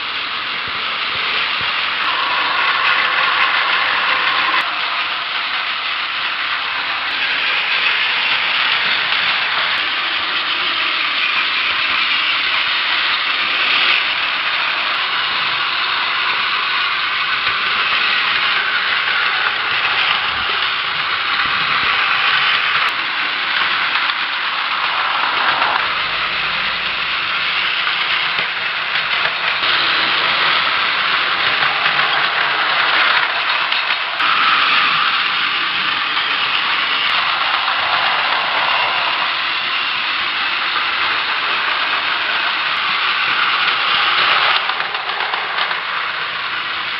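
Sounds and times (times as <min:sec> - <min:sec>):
toy trains whirring and rattling: 0:00.0 - 0:46.9.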